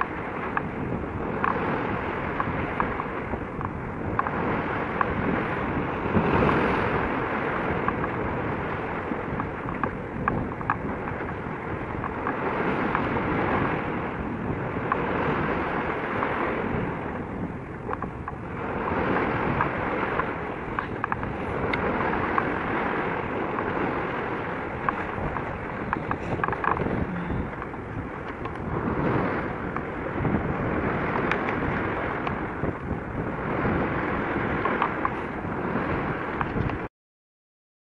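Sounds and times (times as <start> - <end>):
wind blowing over microphone: 0.0 - 36.9.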